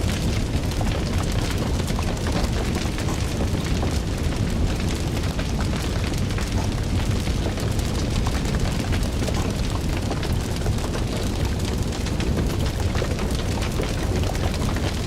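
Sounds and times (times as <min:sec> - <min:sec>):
fire crackling and popping: 0:00.0 - 0:15.0
fire roaring: 0:00.0 - 0:15.0.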